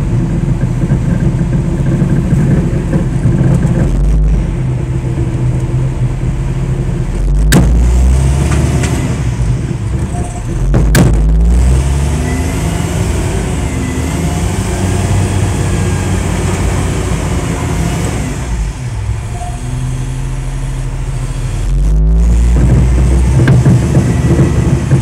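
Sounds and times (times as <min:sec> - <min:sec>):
heavy diesel engines under load: 0:00.0 - 0:25.0.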